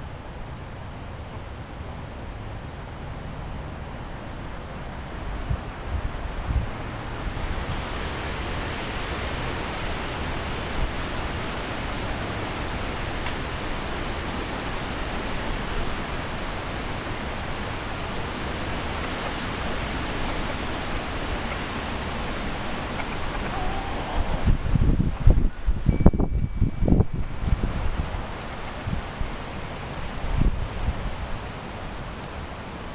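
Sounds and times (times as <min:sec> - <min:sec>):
wind buffeting microphone: 0:05.2 - 0:32.2
wind hissing: 0:06.0 - 0:32.9.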